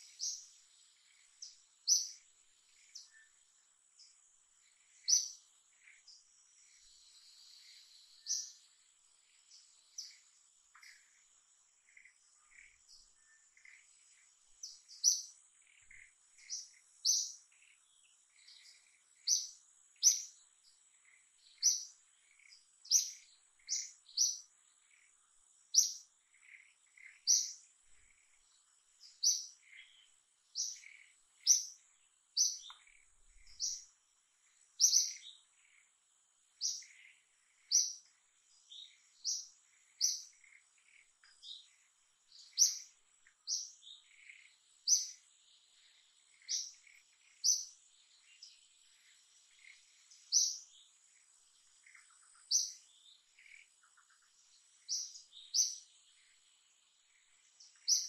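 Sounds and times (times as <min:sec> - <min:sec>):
bird chirping: 0:00.0 - 0:58.0
faint high-pitched whine: 0:00.0 - 0:58.0.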